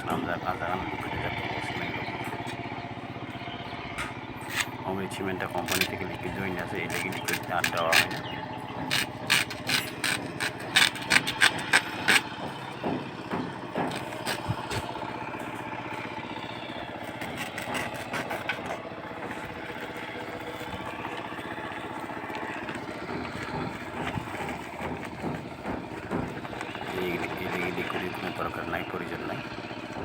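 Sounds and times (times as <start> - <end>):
machine engine running: 0.0 - 30.0.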